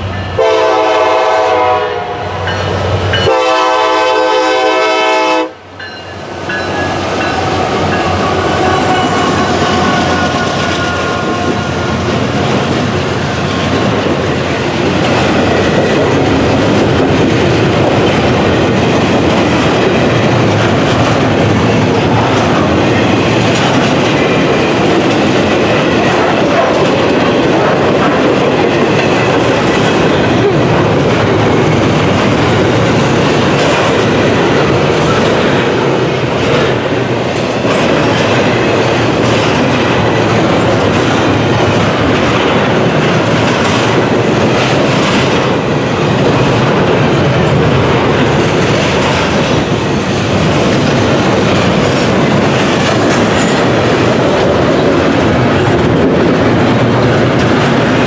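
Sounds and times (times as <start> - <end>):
train wheels rolling on rail: 0.0 - 58.0
clickety-clack at rail joints: 5.8 - 58.0.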